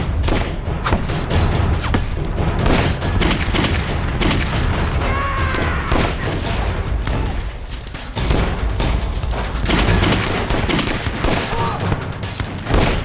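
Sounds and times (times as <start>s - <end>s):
low rumble: 0.0s - 12.8s
rifle and machine-gun fire: 0.0s - 13.0s.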